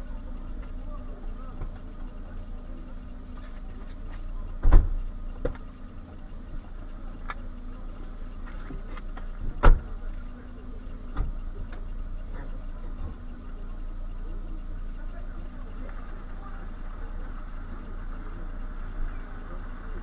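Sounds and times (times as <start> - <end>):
moving car rumble: 0.0 - 20.0.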